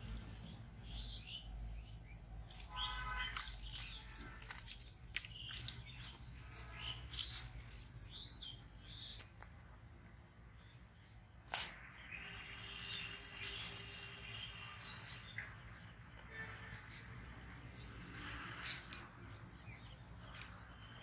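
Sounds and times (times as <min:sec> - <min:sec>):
rustles: 0:00.0 - 0:09.6, 0:12.6 - 0:20.8
small birds chirping: 0:00.0 - 0:21.0.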